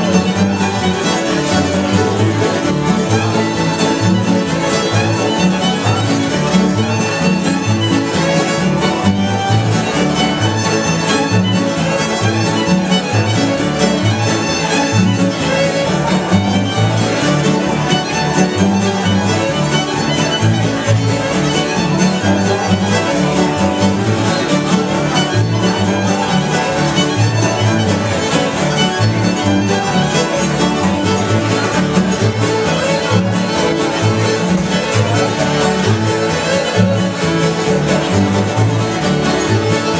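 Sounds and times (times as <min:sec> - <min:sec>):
banjo: 0:00.0 - 0:39.9
fiddle: 0:00.0 - 0:39.9
mandolin: 0:00.0 - 0:39.9
strummed acoustic guitars: 0:00.0 - 0:39.9.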